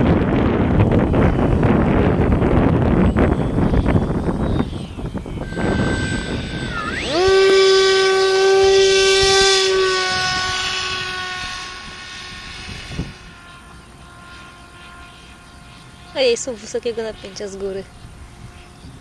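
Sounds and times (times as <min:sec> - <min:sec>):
model plane motor whining: 0:00.0 - 0:19.0.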